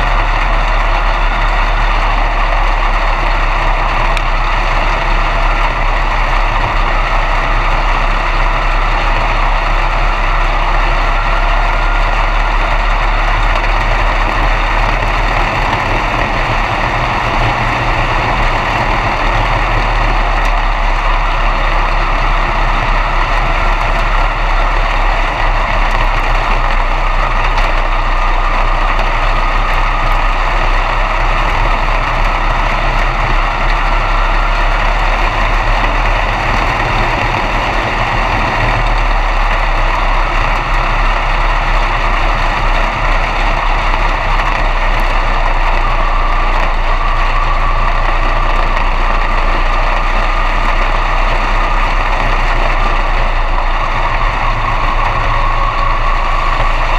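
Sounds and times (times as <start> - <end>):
race car engine running: 0.0 - 56.9.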